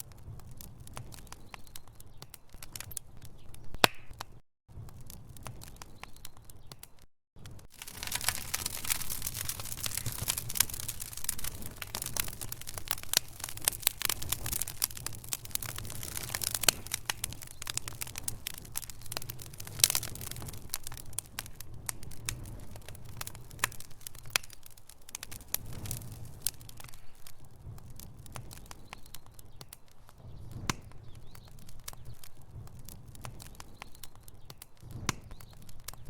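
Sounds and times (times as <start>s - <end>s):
low rumble of fire: 0.0s - 36.0s
wood fire crackling: 0.0s - 36.0s.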